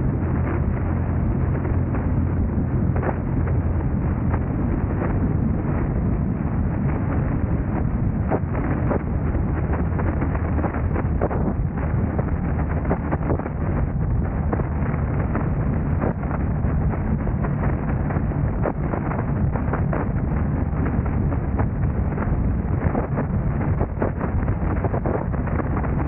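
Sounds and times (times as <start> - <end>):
car driving road noise: 0.0 - 26.0.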